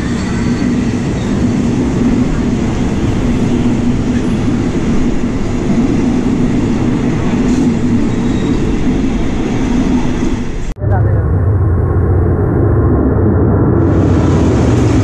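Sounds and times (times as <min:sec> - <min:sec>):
train wheels rumbling on rails: 0:00.0 - 0:12.2, 0:13.8 - 0:15.0.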